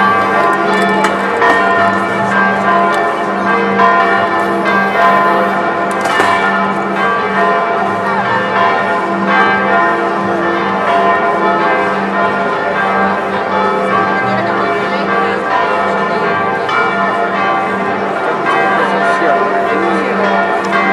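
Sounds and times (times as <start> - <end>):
many bells ringing: 0.0 - 20.9.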